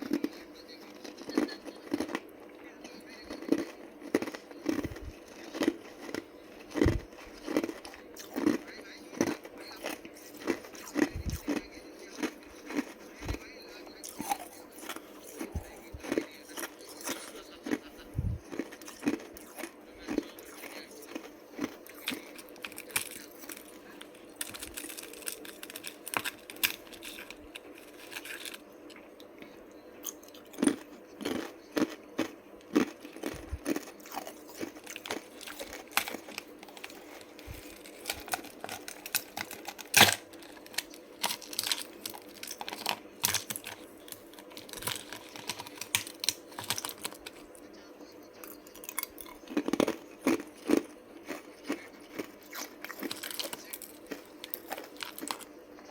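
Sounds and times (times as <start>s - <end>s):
ice being chewed: 0.0s - 47.6s, 48.4s - 55.9s.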